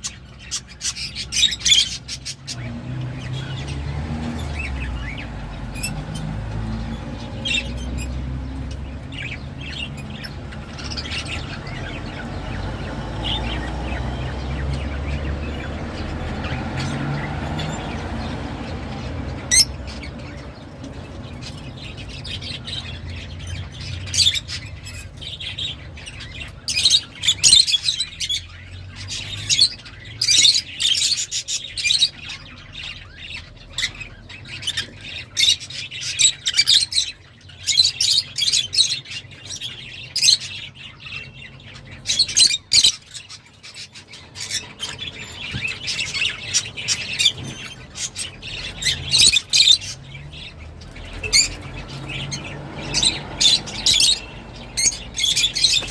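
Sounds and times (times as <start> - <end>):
lovebirds chirping and squawking: 0.0 - 55.9.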